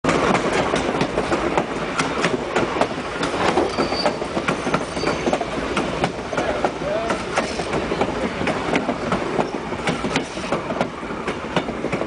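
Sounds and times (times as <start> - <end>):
train wheels rumbling: 0.0 - 12.0
wheels clicking and knocking on rails: 0.0 - 12.0.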